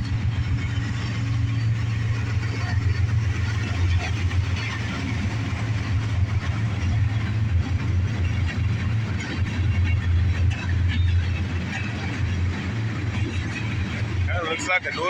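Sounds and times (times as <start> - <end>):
diesel locomotive rumble: 0.0 - 15.0
train wheels rolling on rails: 0.0 - 15.0.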